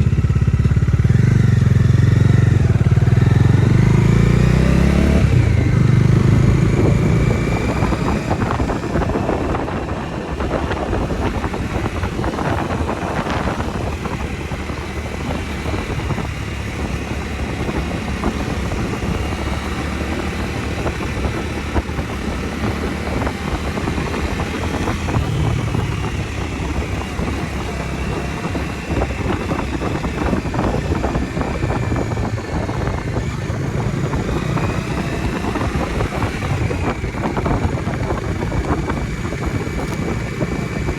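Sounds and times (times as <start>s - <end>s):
motorcycle engine running: 0.0s - 40.9s
wind rushing: 2.2s - 40.9s.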